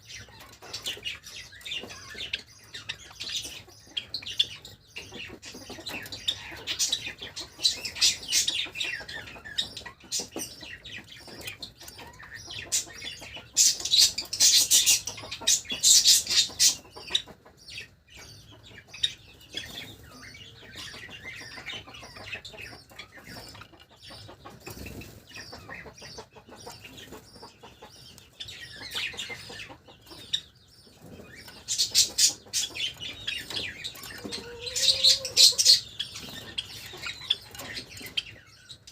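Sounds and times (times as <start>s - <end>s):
sparrows chirping and chattering: 0.0s - 38.9s.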